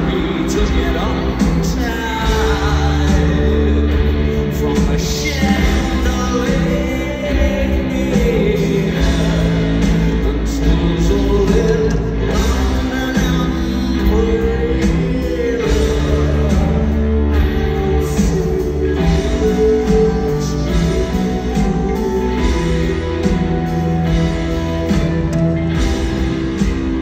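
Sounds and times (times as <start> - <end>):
man singing: 0.0 - 25.5
live rock band playing: 0.0 - 27.0.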